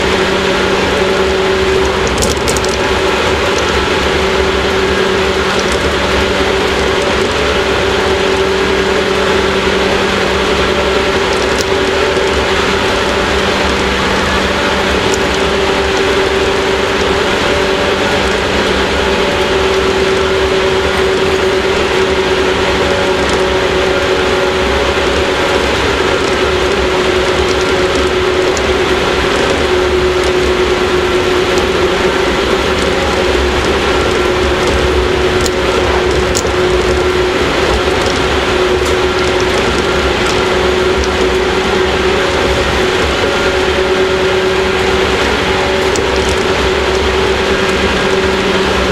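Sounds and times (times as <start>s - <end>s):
train motor and gear hum: 0.0s - 48.9s
wheel and track noise: 0.0s - 48.9s.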